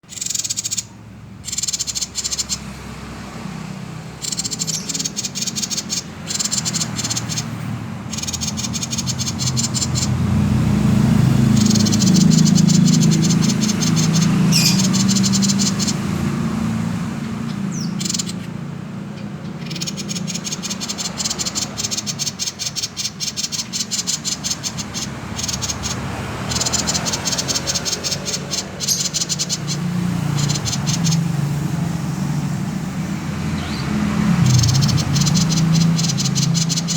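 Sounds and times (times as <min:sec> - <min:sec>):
bird rattling chatter call: 0:00.0 - 0:02.7, 0:04.2 - 0:10.3, 0:11.2 - 0:16.3, 0:17.7 - 0:18.6, 0:19.6 - 0:32.6, 0:33.2 - 0:36.9.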